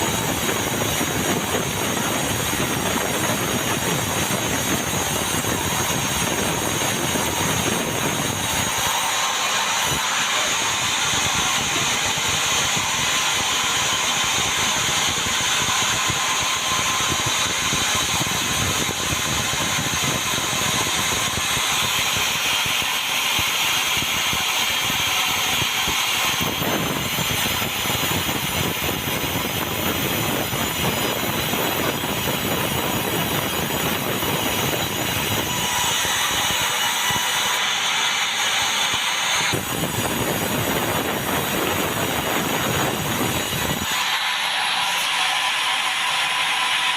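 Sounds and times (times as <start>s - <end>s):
saw cutting timber: 0.0s - 46.9s.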